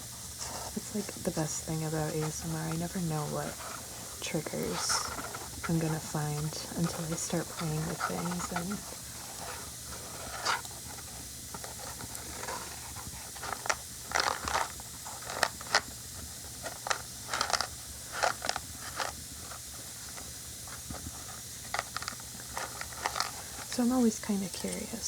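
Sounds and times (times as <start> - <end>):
matchsticks rustling against box: 0.4 - 25.0.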